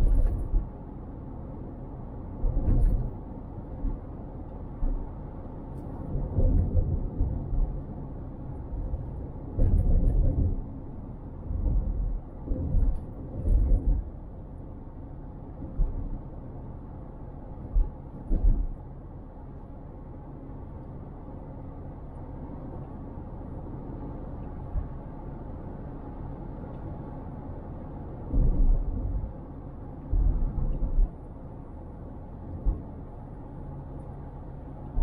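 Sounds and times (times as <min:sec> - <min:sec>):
road rumble: 0:00.0 - 0:35.0.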